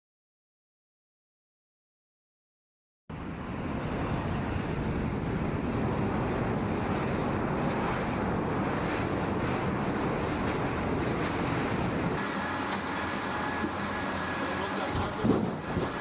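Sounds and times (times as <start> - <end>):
jet engines rumbling: 3.1 - 16.0.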